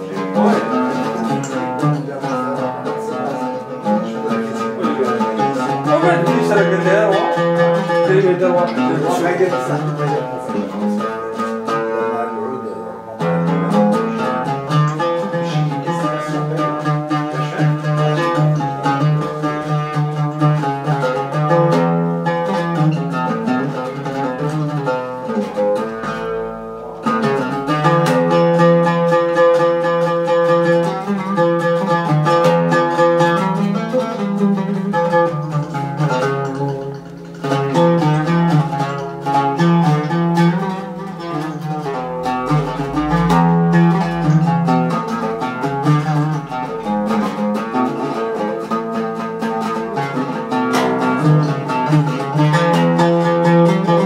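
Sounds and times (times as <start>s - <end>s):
solo oud improvisation: 0.0s - 54.0s.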